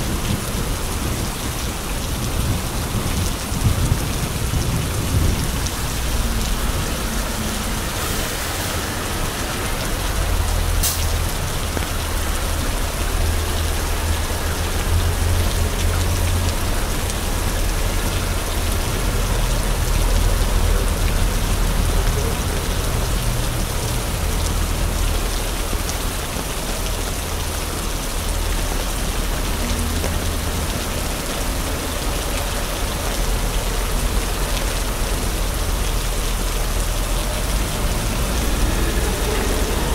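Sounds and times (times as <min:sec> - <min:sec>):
heavy rain splashing on street: 0:00.0 - 0:39.9.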